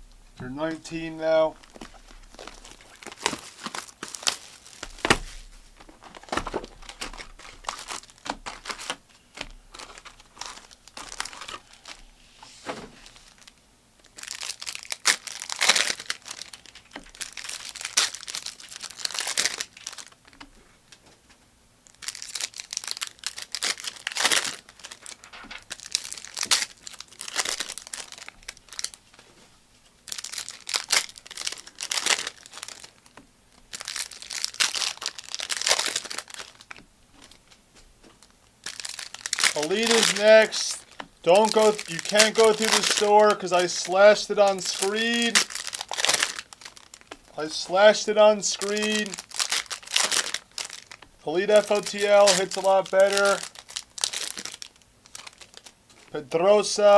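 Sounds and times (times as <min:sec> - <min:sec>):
foil wrappers tearing and crinkling: 0:01.6 - 0:12.1, 0:13.0 - 0:21.0, 0:21.8 - 0:29.2, 0:30.0 - 0:37.5, 0:38.2 - 0:56.2.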